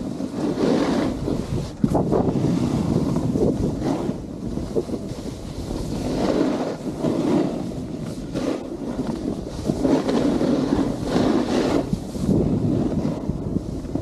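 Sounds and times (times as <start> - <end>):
snowboard scraping over snow: 0.0 - 14.0
wind buffeting microphone: 0.0 - 14.0.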